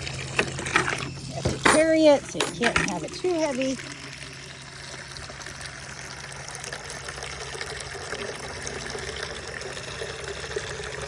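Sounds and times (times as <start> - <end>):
water running into a bucket: 0.0 - 11.0.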